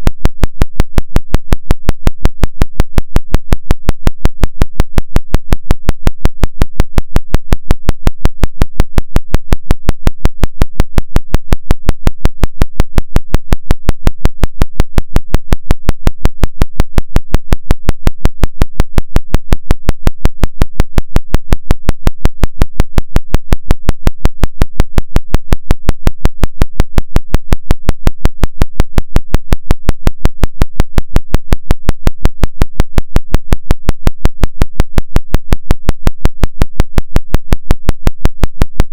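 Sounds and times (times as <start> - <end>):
pulsing low hum tone: 0.0 - 38.9.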